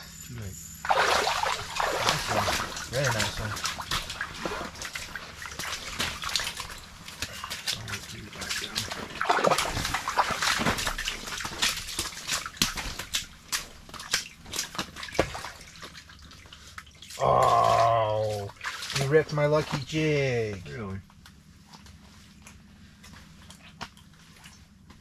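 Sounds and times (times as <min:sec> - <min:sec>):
water sloshing and splashing: 0:00.8 - 0:25.0.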